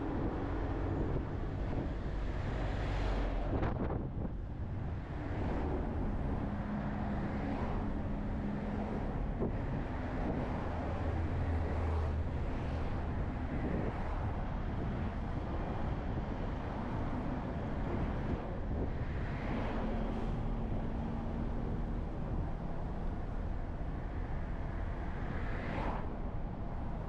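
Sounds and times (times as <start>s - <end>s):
bus engine drone: 0.0s - 27.0s
tyre and road noise: 0.0s - 27.0s.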